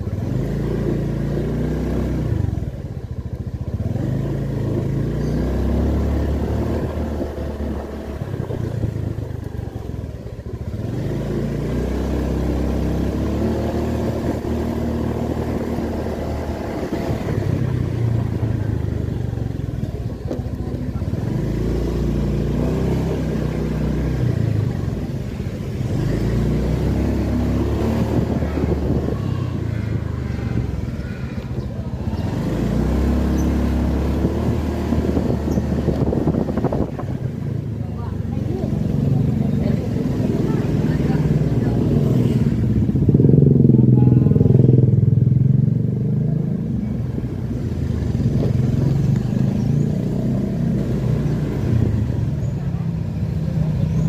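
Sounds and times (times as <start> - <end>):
scooter engine running: 0.0 - 54.0
wind and road noise: 0.0 - 54.0.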